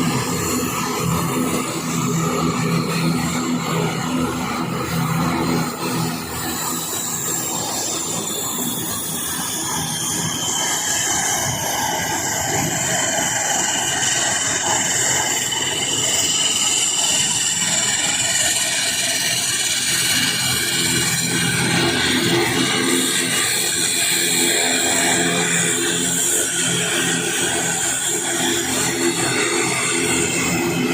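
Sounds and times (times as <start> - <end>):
turboprop engines whining: 0.0 - 30.9.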